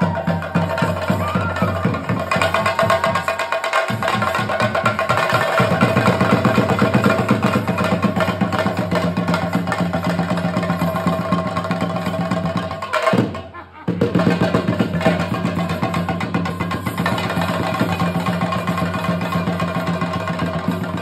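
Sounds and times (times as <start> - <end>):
drums beaten rapidly with sticks: 0.0 - 21.0.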